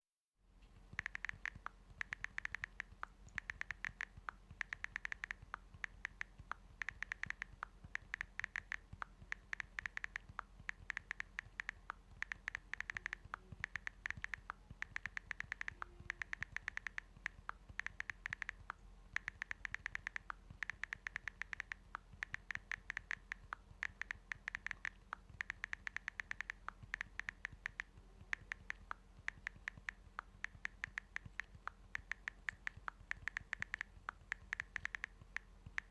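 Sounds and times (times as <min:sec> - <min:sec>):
touchscreen keyboard typing clicks: 0:00.8 - 0:35.9.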